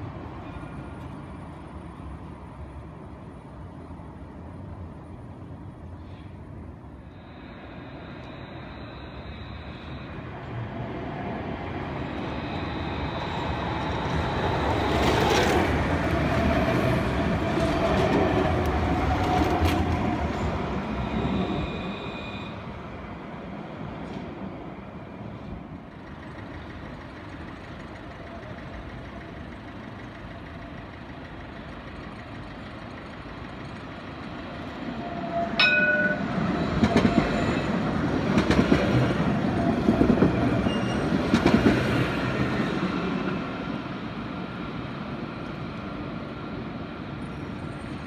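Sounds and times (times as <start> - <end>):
tram rolling past: 0.0 - 48.0.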